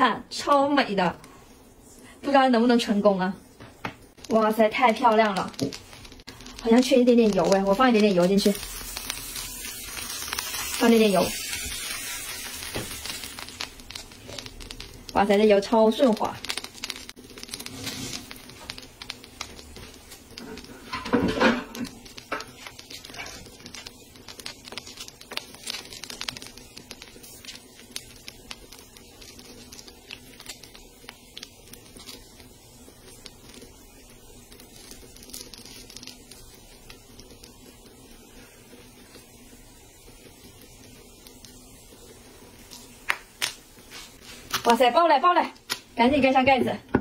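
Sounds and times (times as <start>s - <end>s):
kernels ticking and sizzling: 0.0s - 47.0s.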